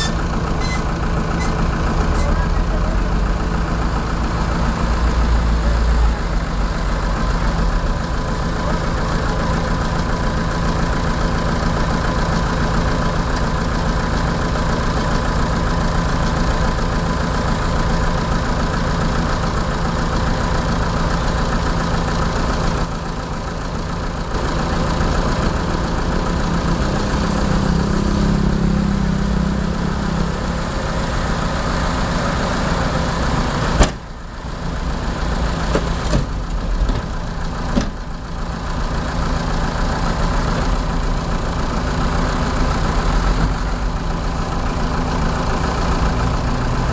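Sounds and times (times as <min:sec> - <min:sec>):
truck engine idling: 0:00.0 - 0:46.9.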